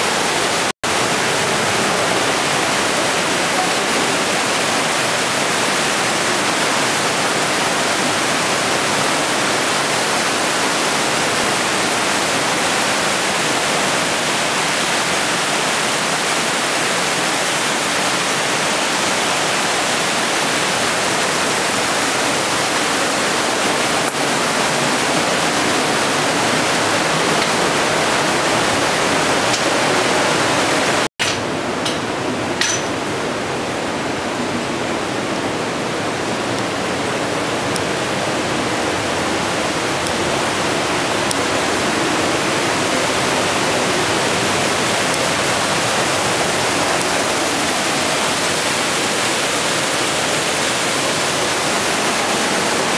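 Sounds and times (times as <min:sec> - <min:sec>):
whitewater torrent rushing: 0:00.0 - 0:52.9.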